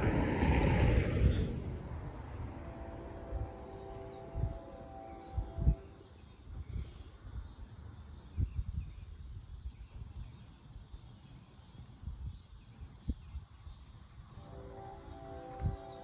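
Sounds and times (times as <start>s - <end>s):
wind buffeting microphone: 0.0s - 13.9s, 14.9s - 16.0s
insects: 0.0s - 16.0s
birds: 2.6s - 16.0s.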